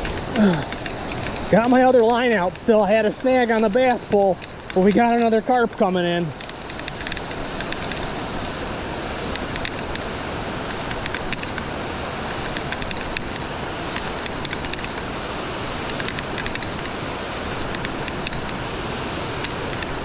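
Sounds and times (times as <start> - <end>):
light clicks and ticks: 0.0 - 20.0.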